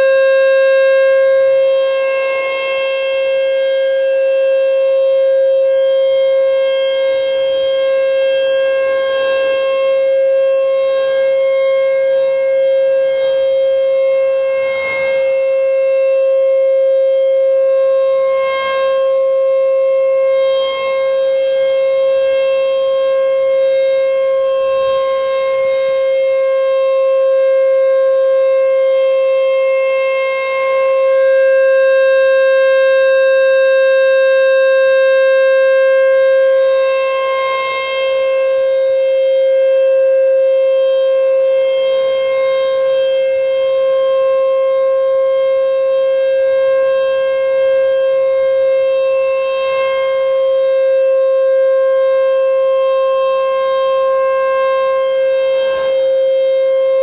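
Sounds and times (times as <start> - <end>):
rotating siren steady tone: 0.0 - 57.0.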